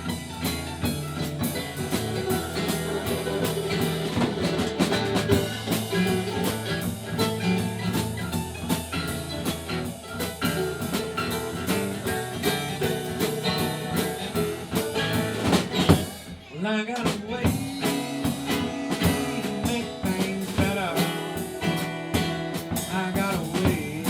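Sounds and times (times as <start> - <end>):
drum kit steady beat: 0.0 - 24.0
guitar: 0.0 - 24.0.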